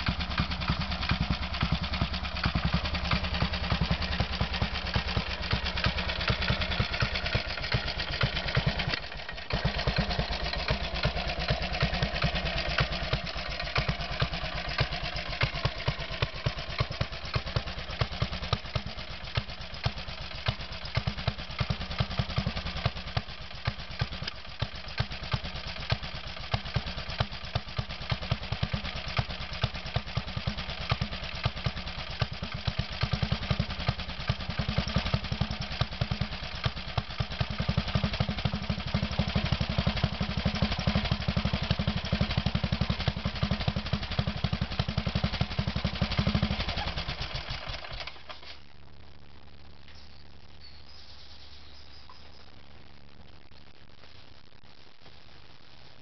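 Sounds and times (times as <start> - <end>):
motorcycle engine idling: 0.0 - 48.6.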